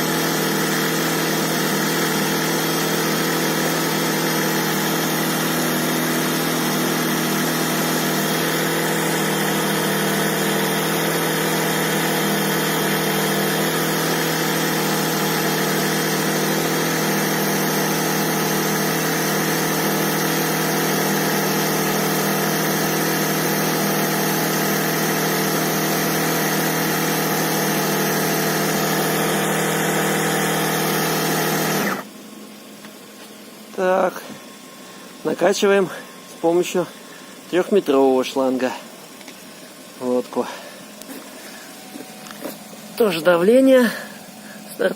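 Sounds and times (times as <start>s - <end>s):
electric air pump running: 0.0s - 44.9s.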